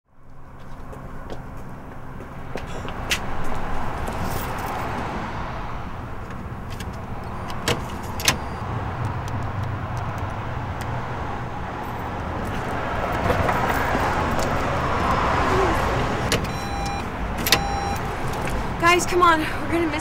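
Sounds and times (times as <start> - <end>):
street traffic rumble: 0.1 - 20.0.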